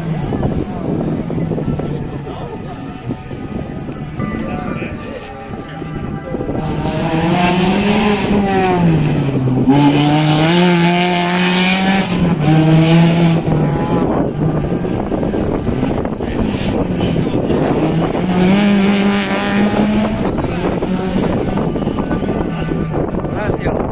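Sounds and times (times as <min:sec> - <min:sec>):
race car engine revving: 0:00.0 - 0:23.9.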